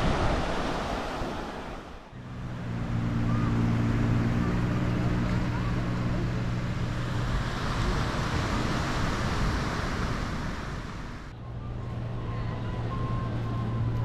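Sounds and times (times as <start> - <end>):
low steady engine hum: 2.0 - 14.0.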